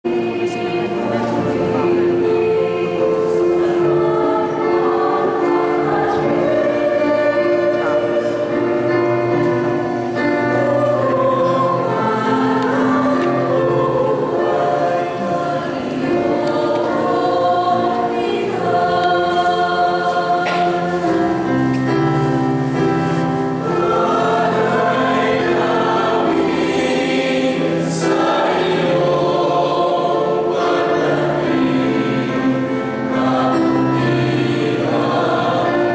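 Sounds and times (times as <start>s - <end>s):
choir singing a hymn: 0.0s - 35.9s.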